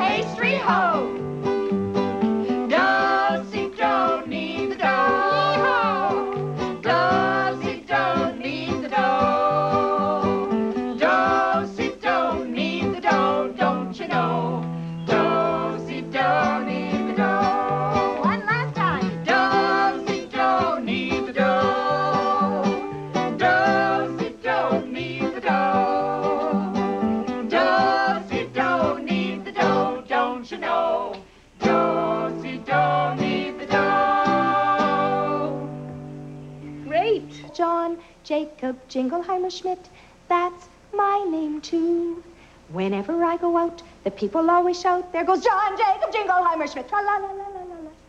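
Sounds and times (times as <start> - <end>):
voices singing children's song: 0.0 - 1.3, 2.3 - 36.2, 36.9 - 48.0
acoustic guitar: 0.0 - 47.9.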